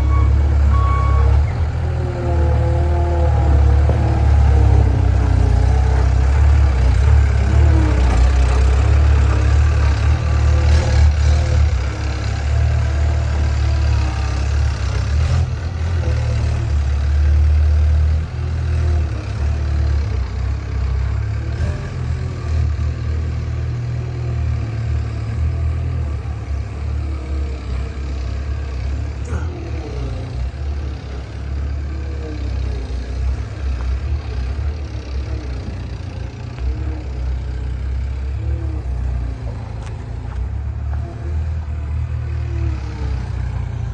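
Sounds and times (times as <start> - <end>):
loader engine running: 0.0 - 43.9.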